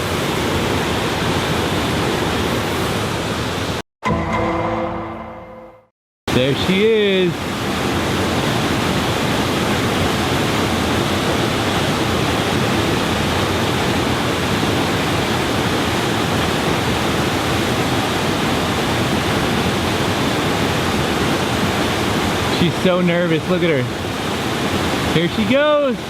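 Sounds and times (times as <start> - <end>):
waterfall rushing: 0.0 - 3.8, 6.3 - 26.0.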